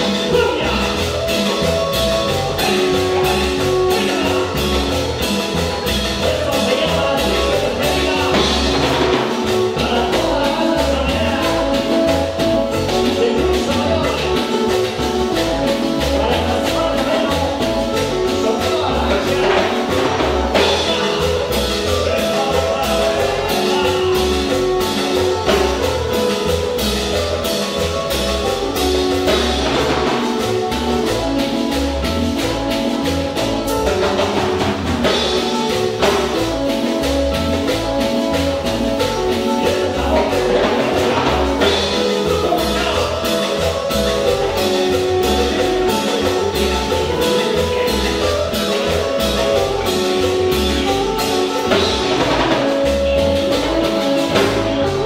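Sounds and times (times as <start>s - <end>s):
drums: 0.0s - 55.0s
guitar: 0.0s - 55.0s
live band playing: 0.0s - 55.0s
person singing: 0.0s - 55.0s.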